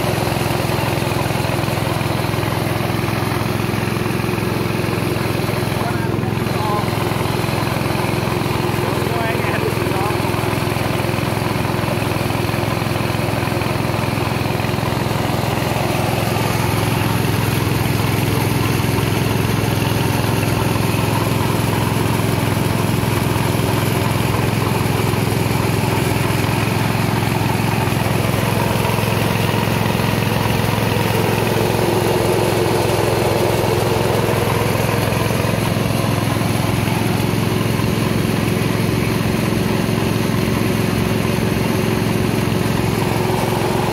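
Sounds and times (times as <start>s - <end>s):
rice milling machine running: 0.0s - 43.9s.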